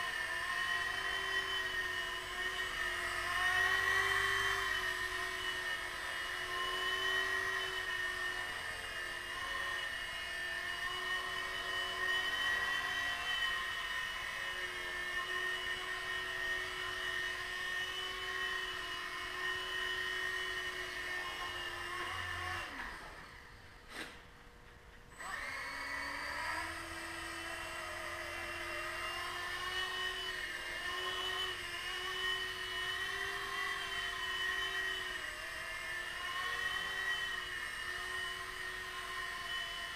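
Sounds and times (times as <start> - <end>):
rc helicopter rotors whining: 0.0 - 23.9, 25.1 - 39.9.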